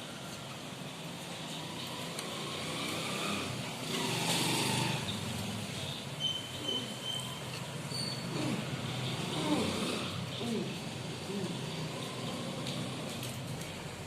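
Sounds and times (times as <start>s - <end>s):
vehicle engine passing by: 1.7s - 5.9s, 6.7s - 14.0s.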